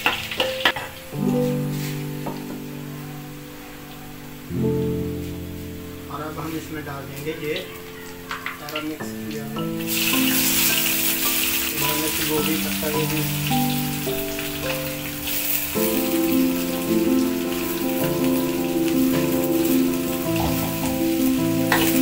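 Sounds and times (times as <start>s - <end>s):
background music with held notes: 0.0s - 22.0s
vegetables sizzling in oil: 0.0s - 22.0s.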